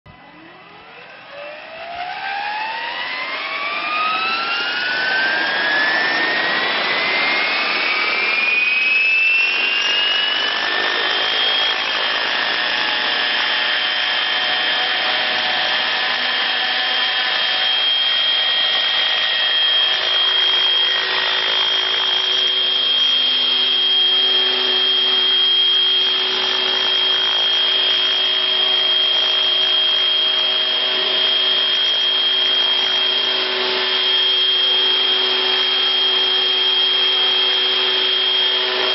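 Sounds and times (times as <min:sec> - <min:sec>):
helicopter rotor whine: 0:00.1 - 0:38.9.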